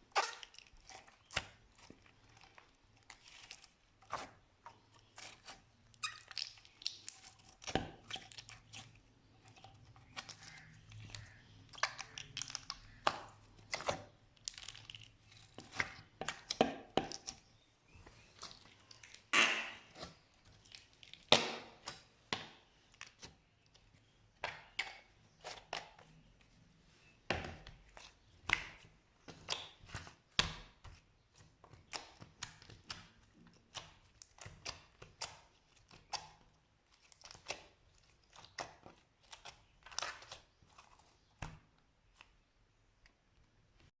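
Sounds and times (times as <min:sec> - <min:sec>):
slime clicking and squelching: 0:00.1 - 0:26.3, 0:27.4 - 0:43.9.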